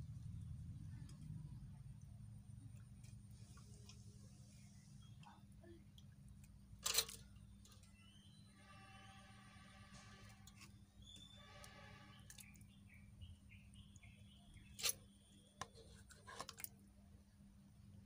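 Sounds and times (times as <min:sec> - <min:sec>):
fish rinsed in steel pot: 0:00.6 - 0:08.6, 0:09.8 - 0:16.9.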